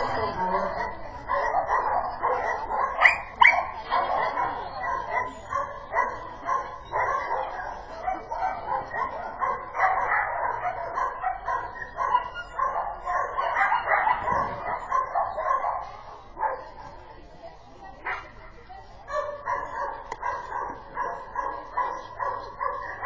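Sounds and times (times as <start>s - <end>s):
dog barking: 0.1s - 17.0s, 19.1s - 23.0s.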